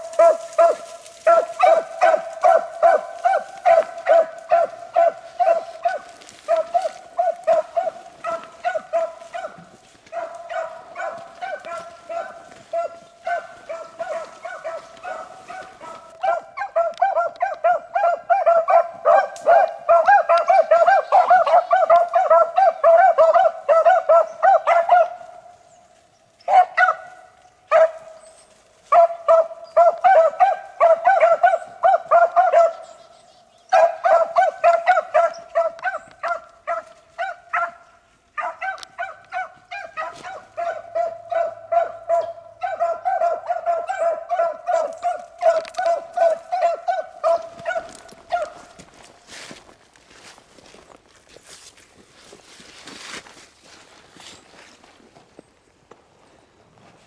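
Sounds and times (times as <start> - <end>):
hounds baying: 0.0 - 50.8.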